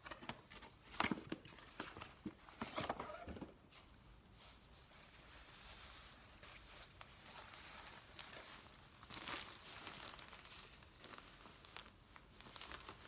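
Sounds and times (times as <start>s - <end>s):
soft rustling: 1.5s - 13.0s.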